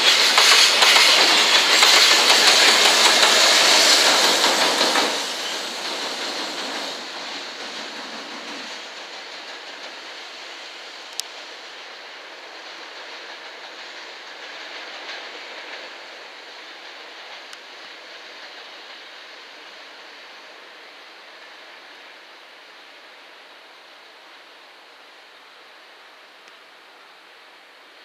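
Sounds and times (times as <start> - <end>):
freight train passing: 0.0 - 28.0.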